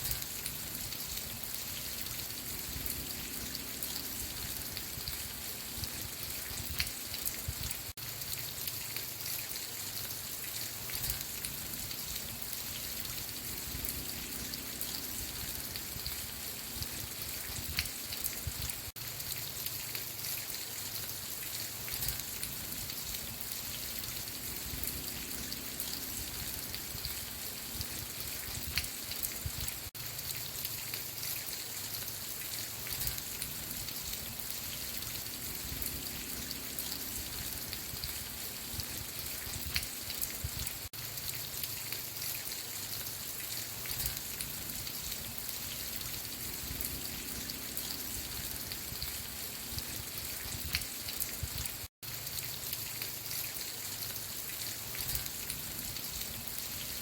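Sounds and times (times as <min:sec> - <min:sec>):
raindrops striking nearby: 0:00.0 - 0:57.0
steady rain falling: 0:00.0 - 0:57.0.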